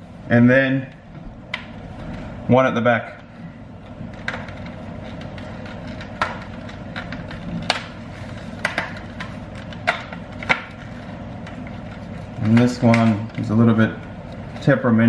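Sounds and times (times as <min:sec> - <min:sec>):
room noise: 0:00.0 - 0:15.0.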